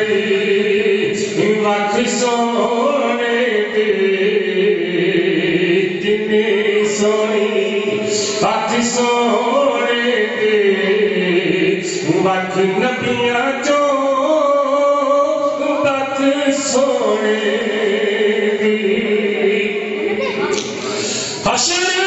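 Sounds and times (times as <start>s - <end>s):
man chanting into a microphone: 0.0s - 20.3s, 20.9s - 22.0s.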